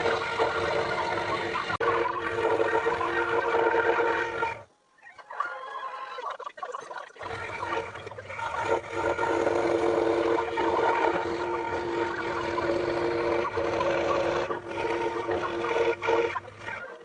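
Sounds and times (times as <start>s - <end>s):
scroll saw cutting wood: 0.0s - 4.7s, 7.2s - 17.0s.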